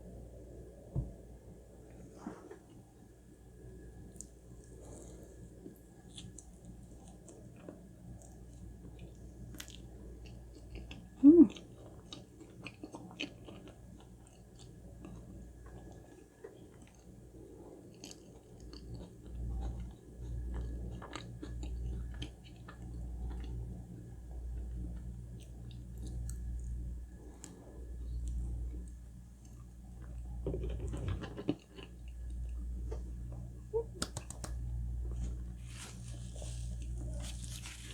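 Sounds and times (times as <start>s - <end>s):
person chewing food: 4.2s - 23.7s, 24.4s - 37.9s.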